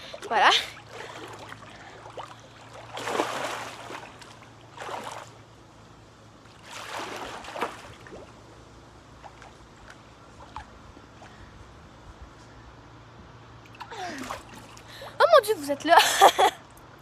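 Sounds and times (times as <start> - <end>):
pool water splashing: 0.0 - 11.6, 13.6 - 16.6.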